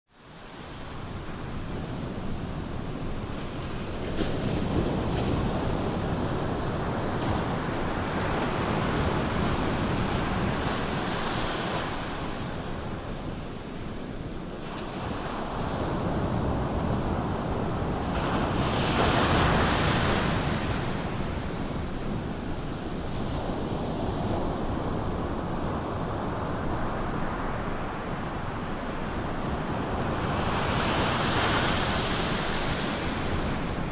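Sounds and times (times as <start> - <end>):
ocean surf washing onto beach: 0.3 - 33.9.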